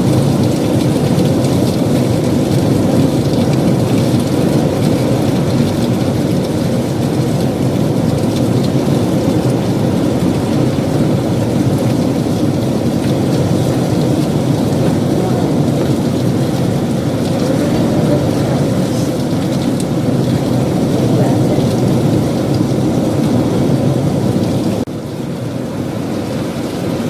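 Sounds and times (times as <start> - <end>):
heavy rain downpour: 0.0 - 27.0.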